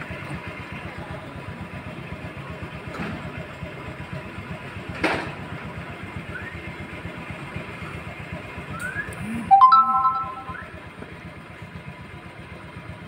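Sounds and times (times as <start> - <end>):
small engine idling: 0.0 - 9.5, 10.6 - 13.0.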